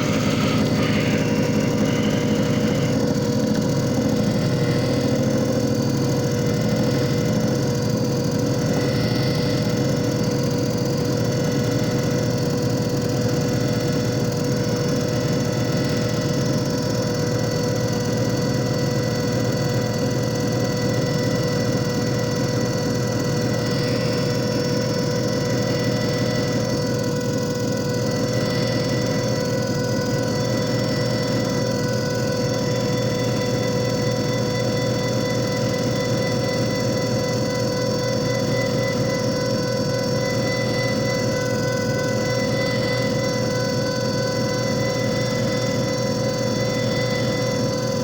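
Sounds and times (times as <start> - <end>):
machine motor humming with whine: 0.0 - 48.0.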